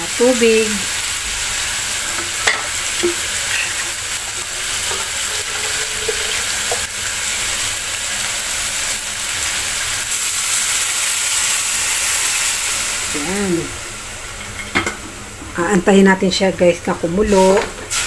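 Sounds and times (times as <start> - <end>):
chicken sizzling in oil: 0.0 - 15.6, 17.2 - 18.0.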